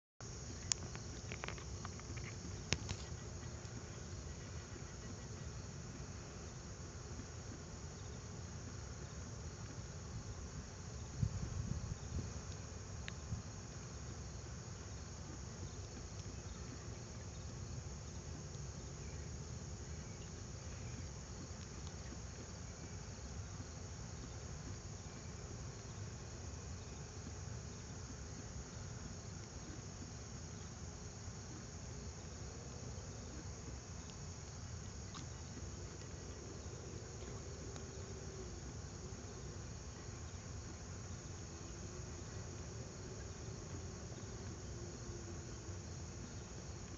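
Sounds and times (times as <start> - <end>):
insect chorus chirring: 0.2 - 46.9.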